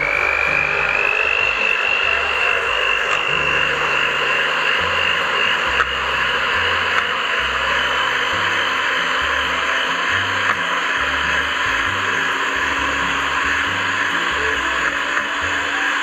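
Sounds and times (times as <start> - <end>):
electric hand mixer whining: 0.0 - 16.0.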